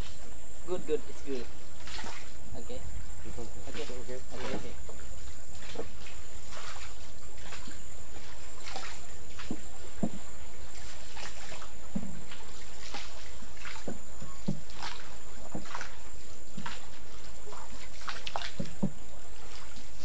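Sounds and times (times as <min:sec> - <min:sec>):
steady low rumble: 0:00.0 - 0:20.0
oars splashing in water: 0:01.2 - 0:20.0.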